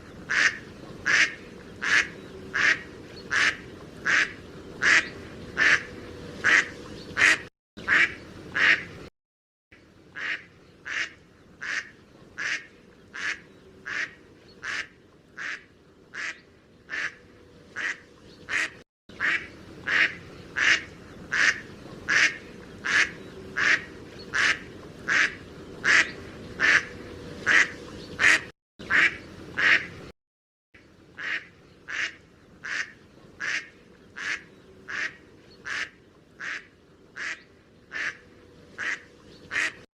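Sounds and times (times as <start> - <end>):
duck quacking: 0.3 - 8.9, 10.2 - 17.2, 17.8 - 30.0, 31.2 - 38.2, 38.8 - 39.8.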